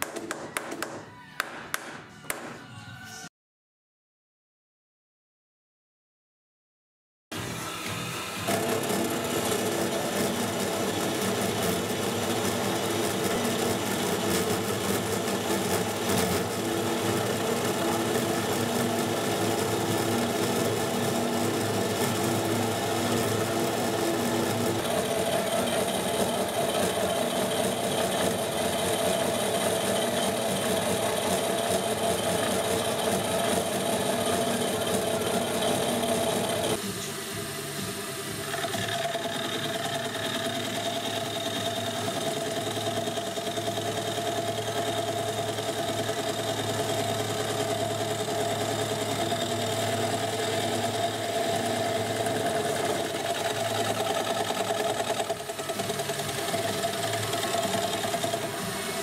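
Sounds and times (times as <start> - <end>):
milling machine whirring: 7.4 - 59.0.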